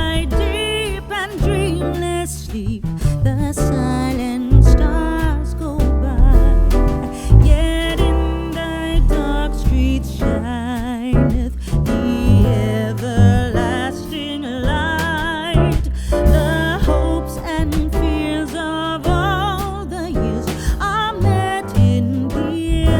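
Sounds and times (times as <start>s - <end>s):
bass and guitar: 0.0s - 22.9s.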